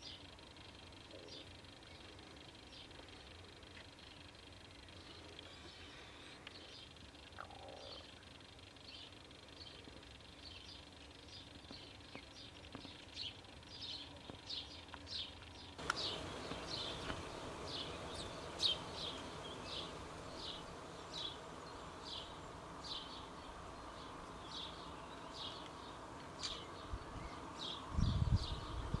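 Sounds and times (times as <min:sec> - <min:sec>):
background hiss: 0:00.0 - 0:29.0
bird chirping: 0:04.0 - 0:29.0.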